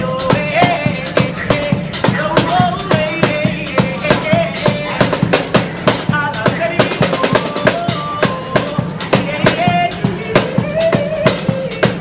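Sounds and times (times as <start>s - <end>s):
man singing: 0.0s - 12.0s
snare drum and cymbal beat: 0.0s - 12.0s.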